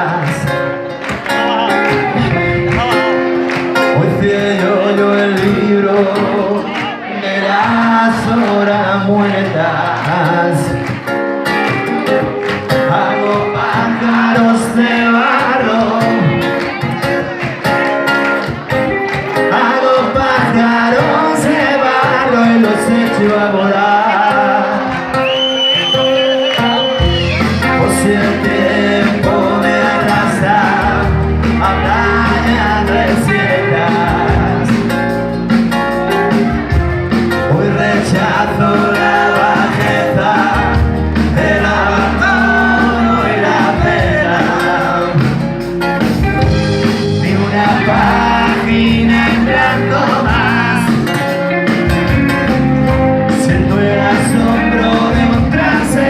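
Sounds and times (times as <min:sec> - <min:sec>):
pop-rock band playing: 0:00.0 - 0:56.0.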